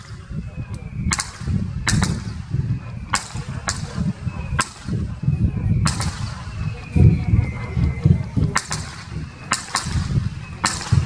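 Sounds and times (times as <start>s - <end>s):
firework shells bursting: 0.0s - 11.0s.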